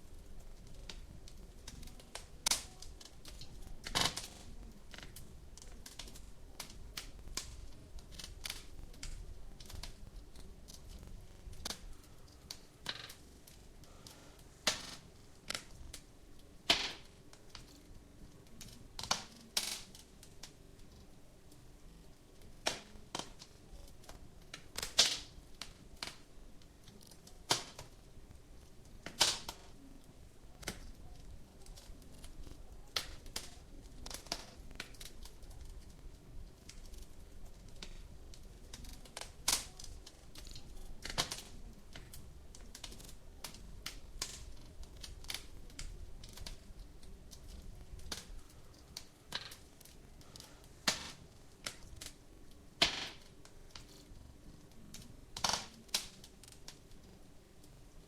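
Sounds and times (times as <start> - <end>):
faint hiss: 0.0 - 58.0
wood fire crackling and popping: 0.0 - 58.0.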